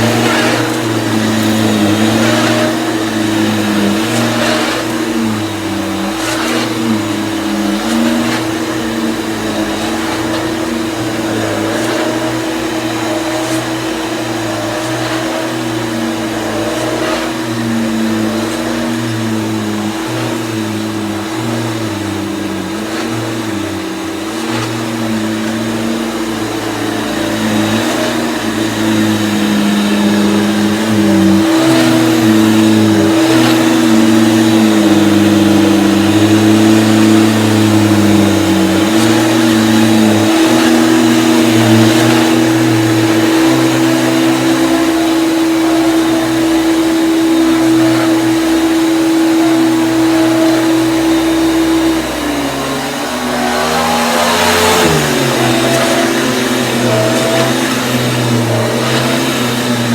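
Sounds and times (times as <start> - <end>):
vacuum cleaner motor hum: 0.0 - 59.9.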